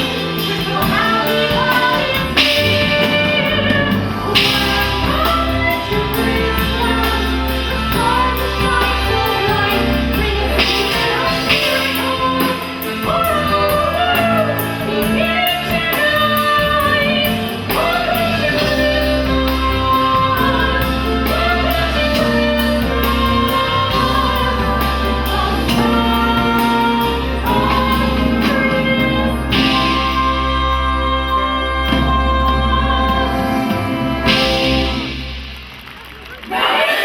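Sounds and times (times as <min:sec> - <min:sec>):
woman singing: 0:00.0 - 0:35.2
band playing with bass and beat: 0:00.0 - 0:36.8.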